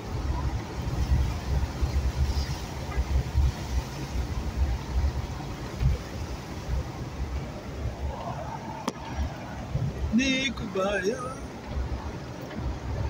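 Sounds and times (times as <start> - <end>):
car driving through floodwater: 0.0 - 13.0.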